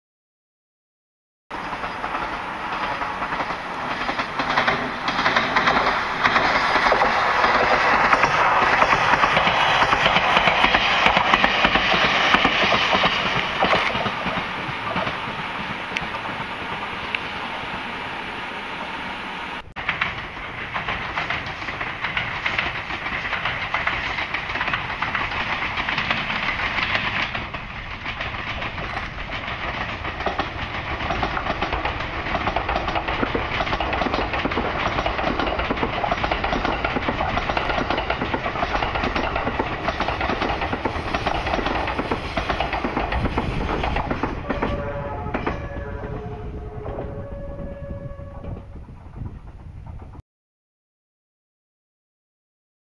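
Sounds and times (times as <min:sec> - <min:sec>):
train running past on rails: 0:01.5 - 0:50.2.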